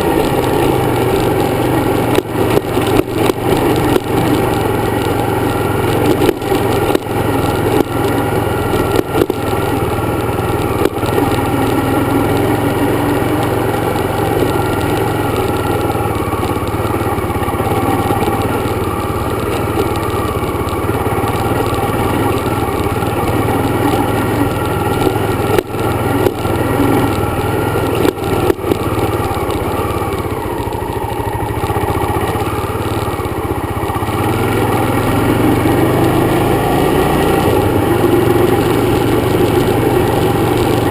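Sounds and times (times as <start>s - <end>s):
dirt bike engine running: 0.0s - 40.9s
wind and road noise: 0.0s - 40.9s.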